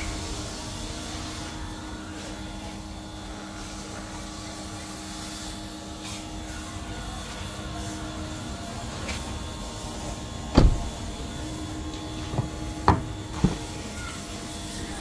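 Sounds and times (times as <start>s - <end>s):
mechanical drone with hum and hiss: 0.0s - 15.0s.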